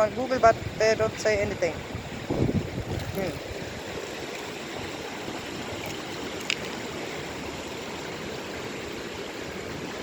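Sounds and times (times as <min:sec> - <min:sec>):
flowing river water: 0:00.0 - 0:10.0.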